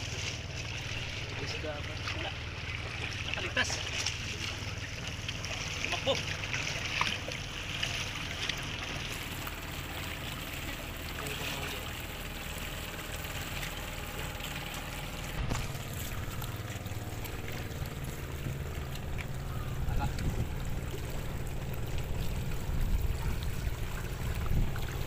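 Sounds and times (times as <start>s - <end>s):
low steady rumble: 0.0s - 25.0s
seawater trickling and sloshing: 0.0s - 25.0s.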